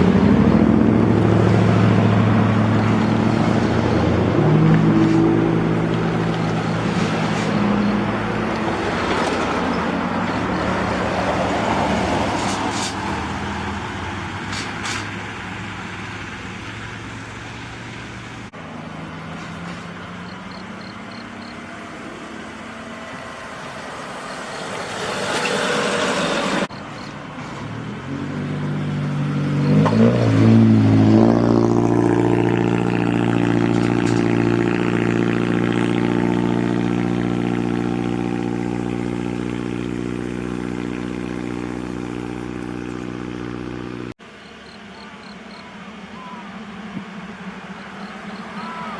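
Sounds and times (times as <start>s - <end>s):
engine revving: 0.0s - 26.8s, 27.5s - 48.9s
truck diesel engines running: 0.0s - 48.9s.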